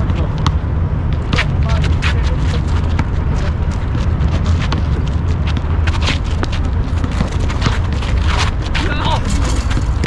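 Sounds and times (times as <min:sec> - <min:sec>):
basketball bouncing on asphalt: 0:00.0 - 0:10.0
steady low rumble: 0:00.0 - 0:10.0
footsteps on asphalt: 0:01.2 - 0:10.0.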